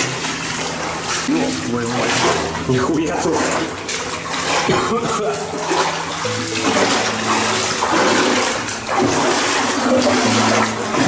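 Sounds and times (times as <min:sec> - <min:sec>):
water splashing underfoot: 0:00.0 - 0:11.0.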